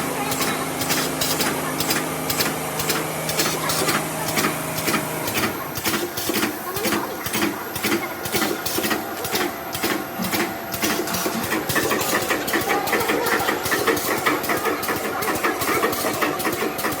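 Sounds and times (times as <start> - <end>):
machinery clattering: 0.0 - 17.0.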